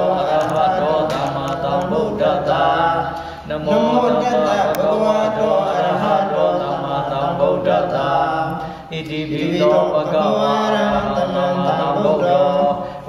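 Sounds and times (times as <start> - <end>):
monks chanting in low voices: 0.0 - 13.0.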